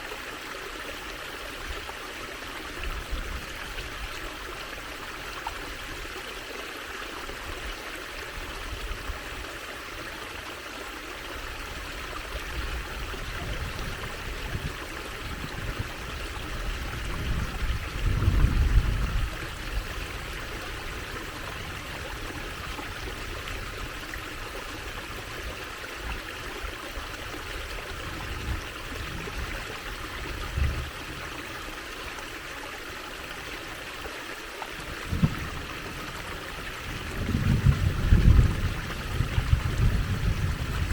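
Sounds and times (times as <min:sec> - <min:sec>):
water trickling in a stream: 0:00.0 - 0:40.9.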